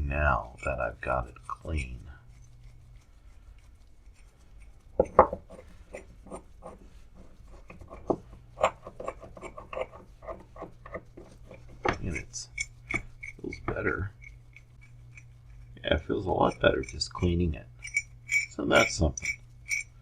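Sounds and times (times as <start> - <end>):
vise clicking and rubbing: 0.5 - 20.0.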